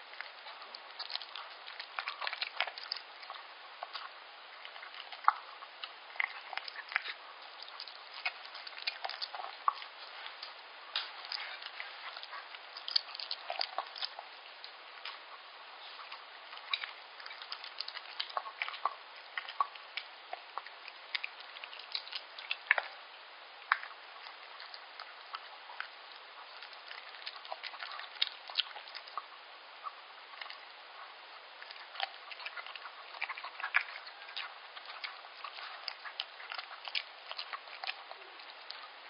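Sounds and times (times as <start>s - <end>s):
dog licking and chewing wet food: 0.0s - 39.0s.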